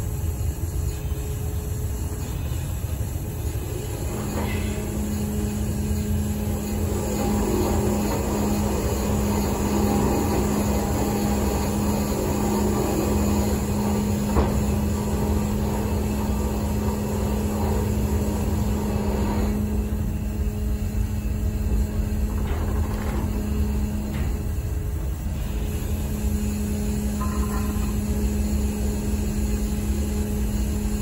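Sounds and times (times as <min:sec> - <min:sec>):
ferry engines humming: 0:00.0 - 0:31.0.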